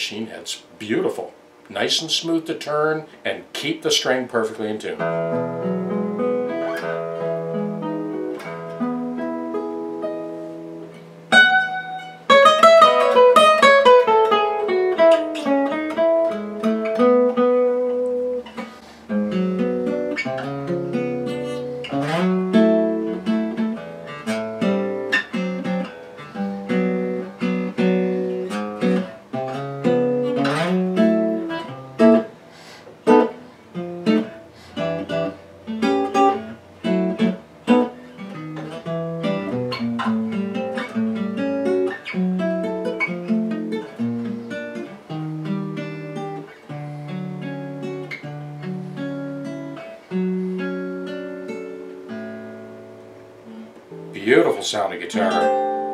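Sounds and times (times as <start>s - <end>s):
acoustic guitar playing jazz: 0.0s - 55.9s.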